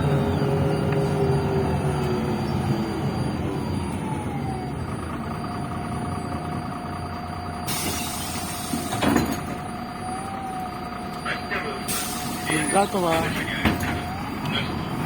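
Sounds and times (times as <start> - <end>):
bus drivetrain whine: 0.0 - 15.0
bus engine rumble: 0.0 - 15.0.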